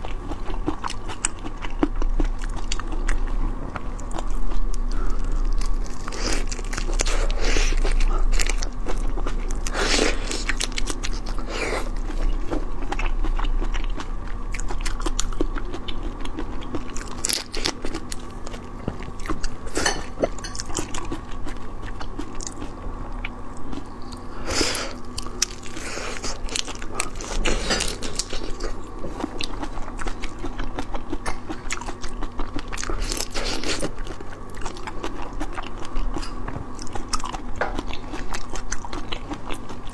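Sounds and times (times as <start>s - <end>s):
crunchy chewing of shrimp shells: 0.0s - 39.9s.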